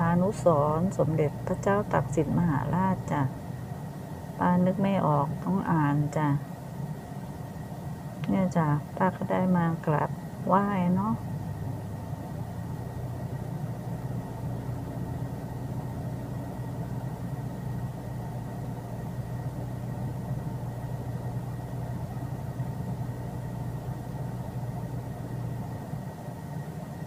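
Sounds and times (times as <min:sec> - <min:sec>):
faint high whine: 0:00.0 - 0:27.0
low mechanical hum: 0:00.0 - 0:27.0.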